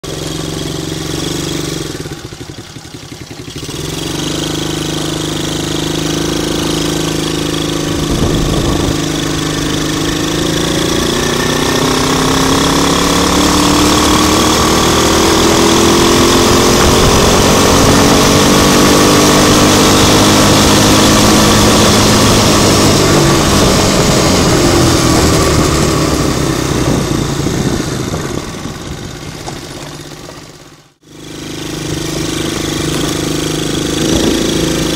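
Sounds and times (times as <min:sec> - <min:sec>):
quad bike engine accelerating: 0:00.0 - 0:34.9
wind and road noise: 0:00.0 - 0:34.9.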